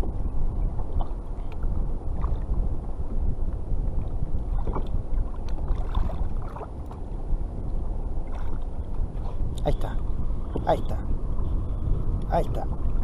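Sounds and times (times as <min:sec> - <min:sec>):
water lapping against kayak: 0:00.0 - 0:13.0
wind buffeting microphone: 0:00.0 - 0:13.0.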